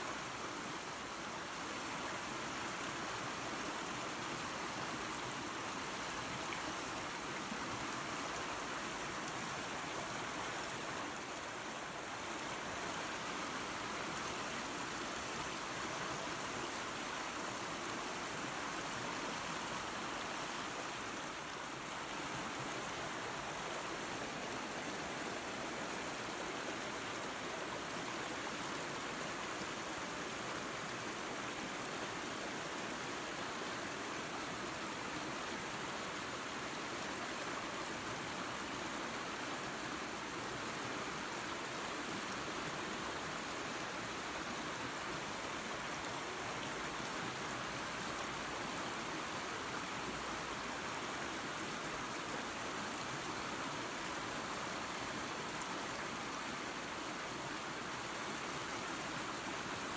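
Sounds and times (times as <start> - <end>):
creek water flowing: 0.0 - 59.9.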